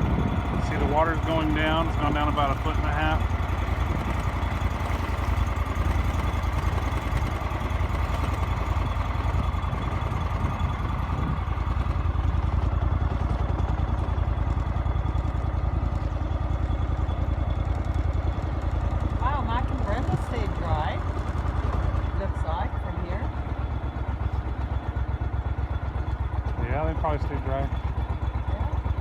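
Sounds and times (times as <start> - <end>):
engine rumbling: 0.0 - 29.0.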